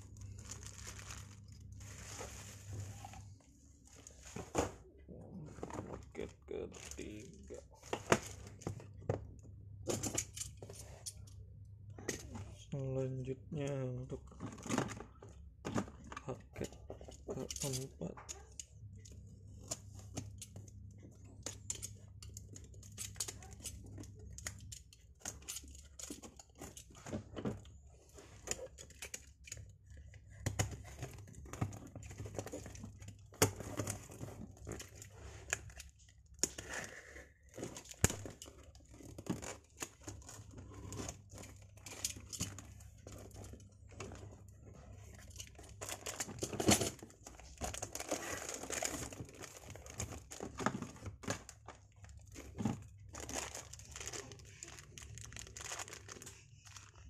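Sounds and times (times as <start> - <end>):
cardboard and plastic rustling: 0.0 - 11.4, 12.0 - 57.0.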